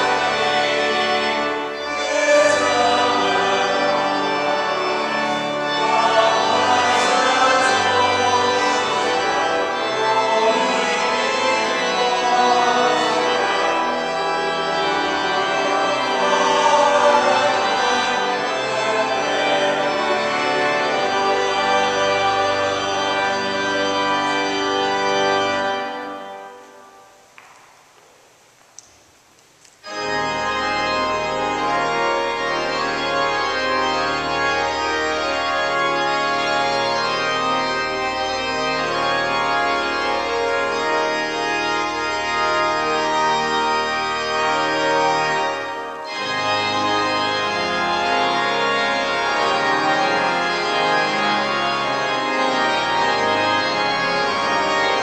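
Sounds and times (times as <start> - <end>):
church organ playing chords: 0.0 - 27.3, 29.8 - 55.0.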